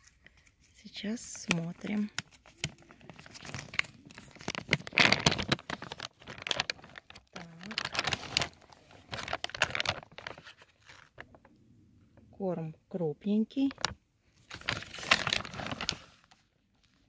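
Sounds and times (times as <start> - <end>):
plastic bag crinkling: 0.9 - 11.4, 13.6 - 17.0.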